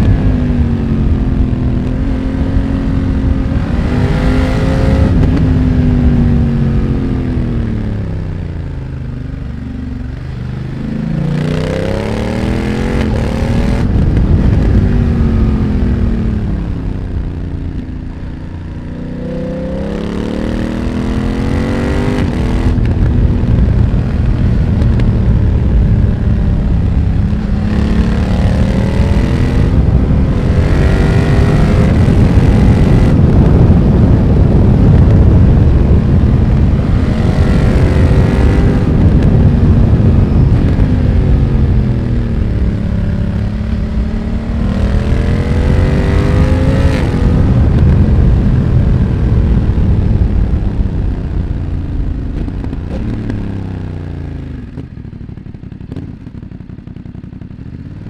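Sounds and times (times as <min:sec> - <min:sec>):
wind rush: 0:00.0 - 0:55.1
exhaust crackles: 0:00.0 - 0:58.0
motorcycle engine accelerating: 0:00.0 - 0:58.0.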